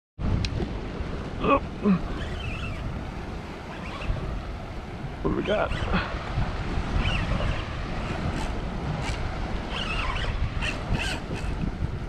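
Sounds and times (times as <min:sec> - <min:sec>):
water around small boat: 0:00.2 - 0:12.0
wind rushing over microphone: 0:00.2 - 0:12.0.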